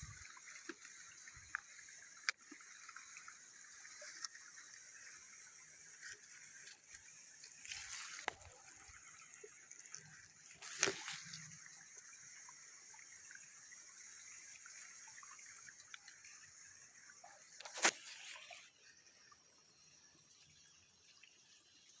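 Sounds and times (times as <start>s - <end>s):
high-pitched hiss: 0.0s - 9.0s, 10.4s - 22.0s
faint trickling water: 0.0s - 22.0s.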